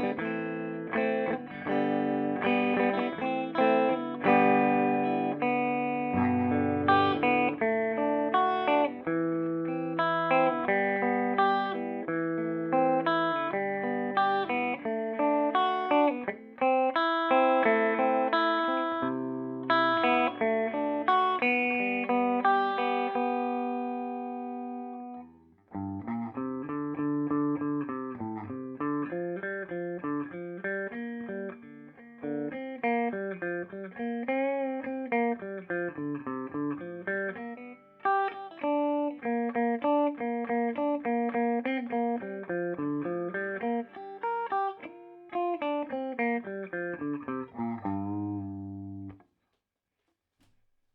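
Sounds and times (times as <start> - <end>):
electric guitar chords: 0.0 - 49.2.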